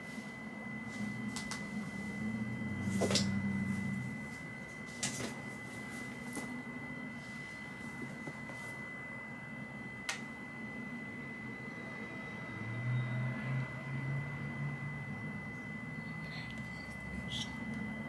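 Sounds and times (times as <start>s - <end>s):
high-pitched electronic whine: 0.0s - 18.0s
low room hum: 0.0s - 18.0s.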